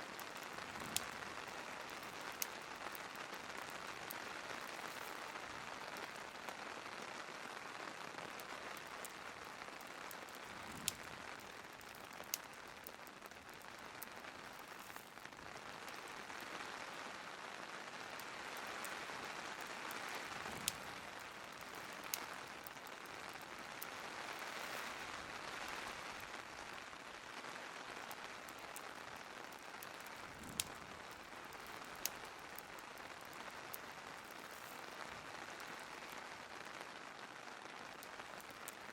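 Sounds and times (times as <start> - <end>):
rain hissing: 0.0 - 38.9
wood fire crackling: 0.0 - 38.9.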